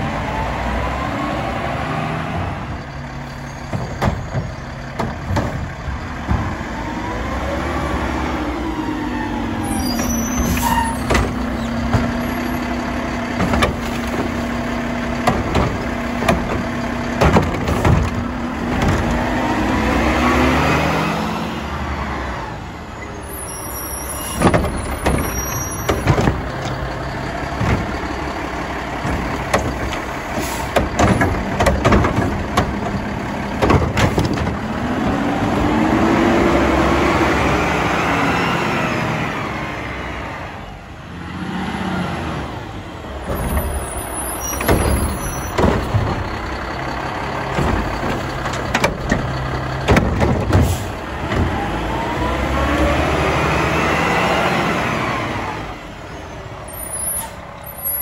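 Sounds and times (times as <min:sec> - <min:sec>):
garbage truck diesel engine: 0:00.0 - 0:58.0
trash cart clanking and banging: 0:02.4 - 0:07.1, 0:09.6 - 0:21.9, 0:23.0 - 0:38.8, 0:43.0 - 0:58.0.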